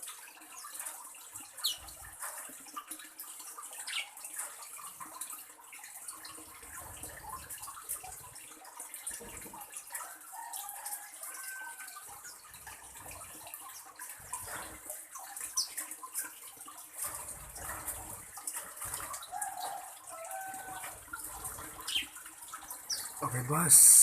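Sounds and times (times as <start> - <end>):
trickling water hiss: 0.0 - 24.0.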